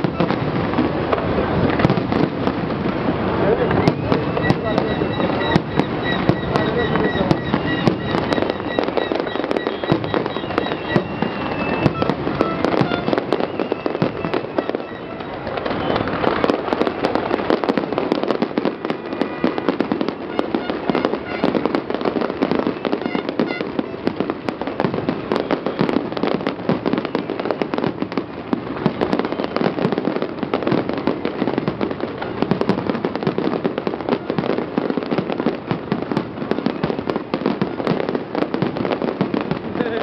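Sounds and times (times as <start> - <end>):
firework shells bursting: 0.0 - 40.0.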